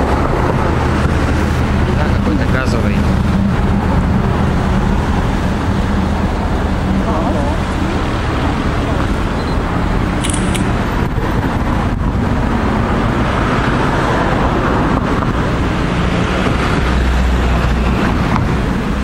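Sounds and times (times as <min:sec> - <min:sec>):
barge engine running: 0:00.0 - 0:19.0
wind on microphone: 0:00.0 - 0:19.0.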